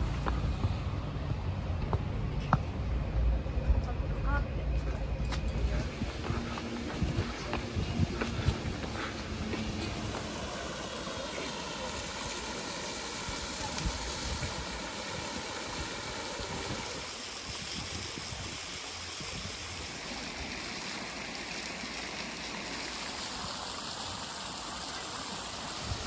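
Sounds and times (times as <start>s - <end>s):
fountain water splashing: 0.0s - 1.7s, 5.5s - 26.0s.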